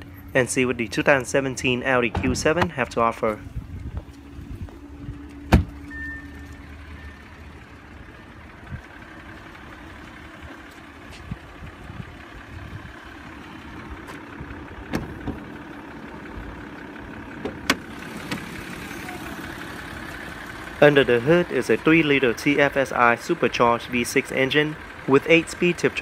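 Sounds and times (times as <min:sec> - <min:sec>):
car engine idling with whine: 0:00.0 - 0:26.0.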